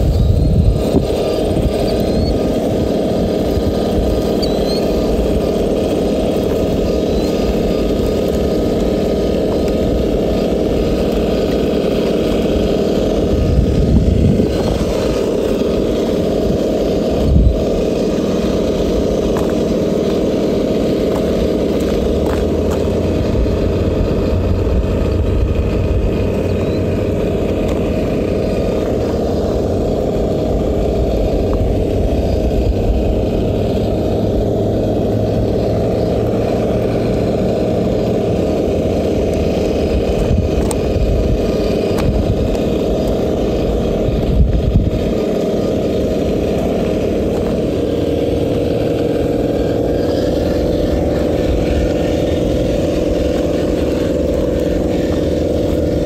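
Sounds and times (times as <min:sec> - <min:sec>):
toy truck motor droning: 0:00.0 - 0:56.0
wheels over gravel: 0:00.0 - 0:56.0.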